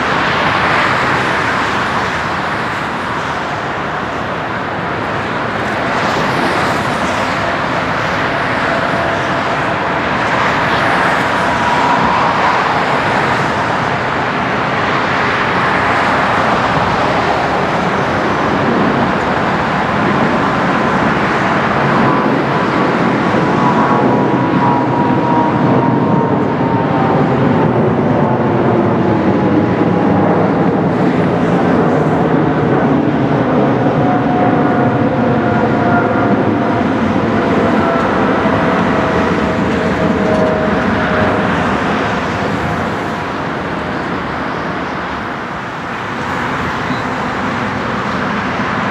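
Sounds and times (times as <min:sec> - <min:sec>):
faint jet engine whine: 0:00.0 - 0:48.9
jet engine rush: 0:00.0 - 0:48.9.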